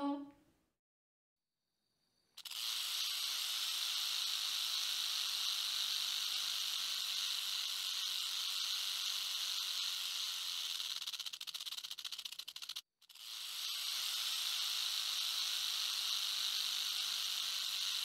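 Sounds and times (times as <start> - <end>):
rattlesnake rattle buzzing: 2.3 - 18.0.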